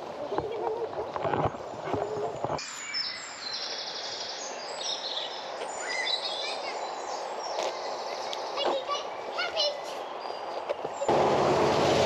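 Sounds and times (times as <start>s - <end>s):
small birds singing: 0.0s - 11.2s
outdoor background noise: 0.0s - 12.0s.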